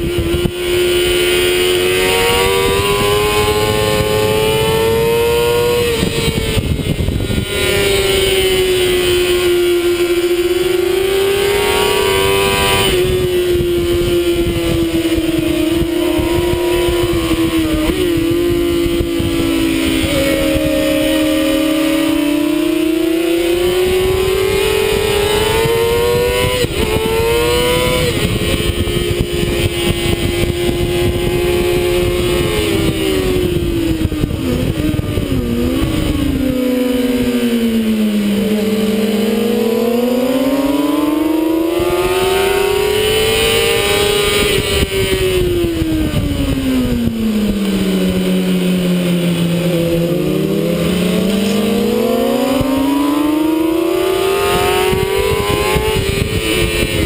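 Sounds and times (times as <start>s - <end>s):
motorcycle engine revving: 0.0s - 57.0s
wind buffeting microphone: 0.0s - 57.0s.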